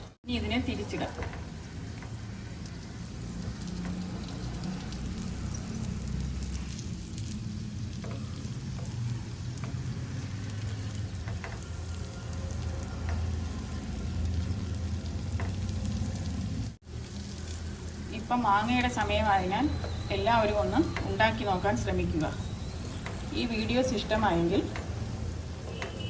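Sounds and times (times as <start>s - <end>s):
dough sizzling in a pan: 0.2s - 26.0s.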